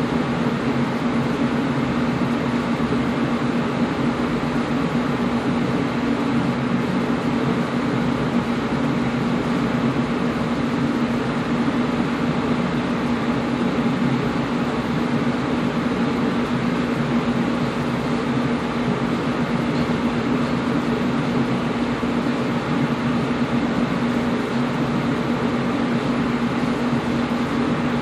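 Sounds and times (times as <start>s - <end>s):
air conditioner running: 0.0s - 28.0s.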